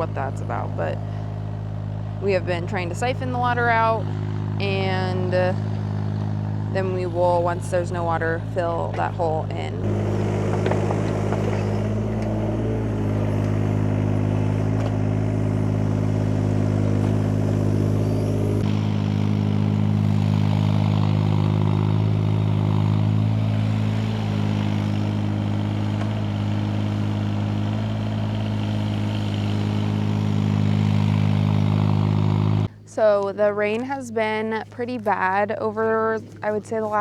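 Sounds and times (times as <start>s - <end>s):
engine droning steadily: 0.0s - 37.0s.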